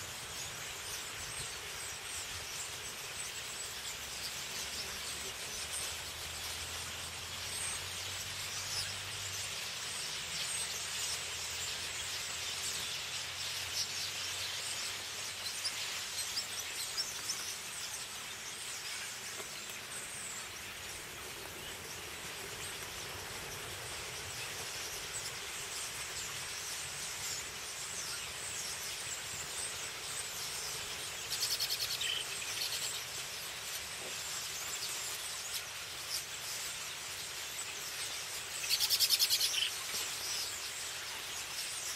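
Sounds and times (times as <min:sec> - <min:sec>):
flock of starlings chattering: 0:00.0 - 0:41.9.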